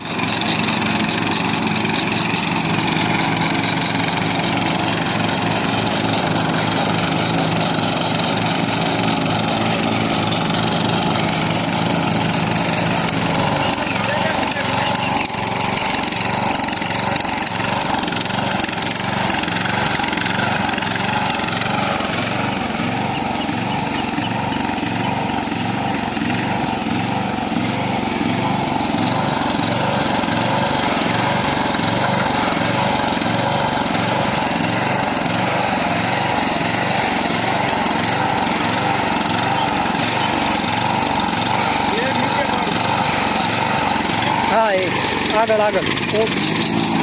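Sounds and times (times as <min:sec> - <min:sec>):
ride-on lawn mower engine running: 0:00.0 - 0:47.0.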